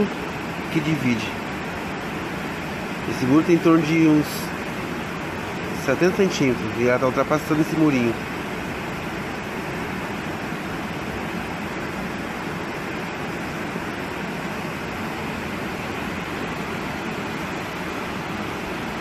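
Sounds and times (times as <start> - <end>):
floodwater rushing along street: 0.0 - 19.0.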